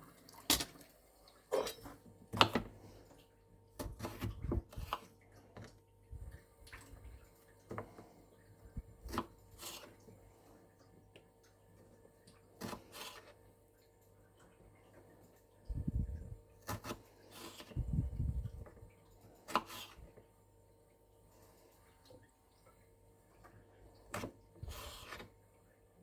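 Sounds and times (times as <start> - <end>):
faint appliance hum: 0.0 - 26.0.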